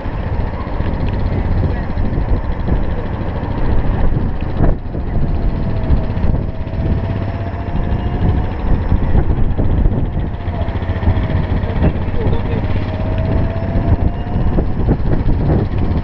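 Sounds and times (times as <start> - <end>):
road rumble: 0.0 - 16.0
wind buffeting microphone: 0.0 - 16.0.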